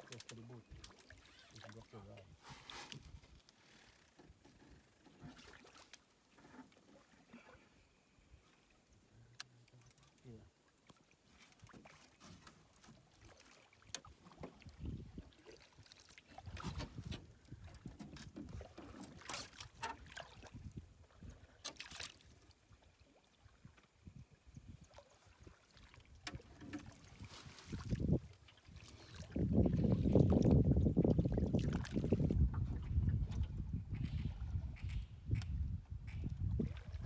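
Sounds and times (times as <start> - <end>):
water sloshing: 0.0 - 7.8, 9.6 - 24.0, 24.8 - 34.8.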